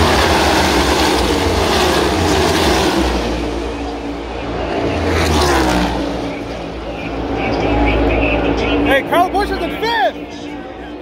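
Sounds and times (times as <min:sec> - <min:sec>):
race car engines roaring past: 0:00.0 - 0:11.0.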